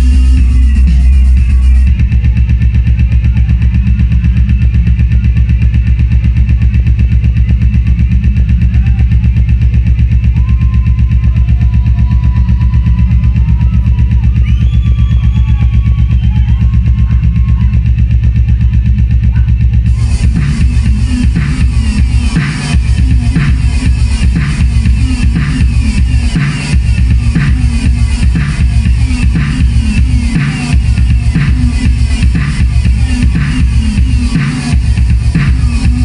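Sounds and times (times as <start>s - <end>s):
electronic music with heavy bass: 0.0s - 36.0s.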